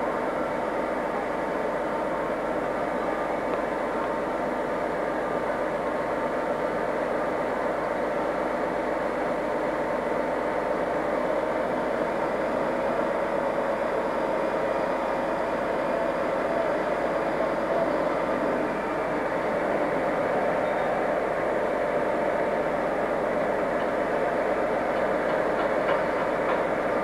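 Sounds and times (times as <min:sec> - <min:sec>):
diesel locomotive engine droning: 0:00.0 - 0:27.0.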